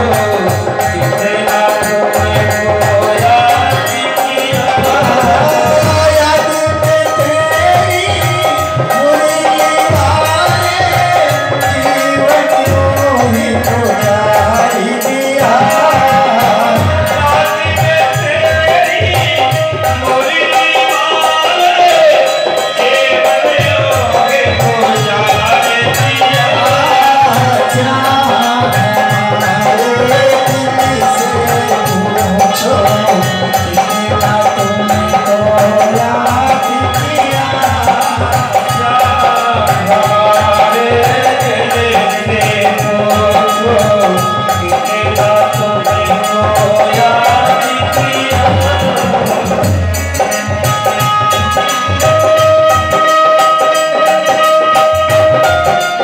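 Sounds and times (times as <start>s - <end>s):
hand drum beat: 0.0s - 56.0s
harmonium melody: 0.0s - 56.0s.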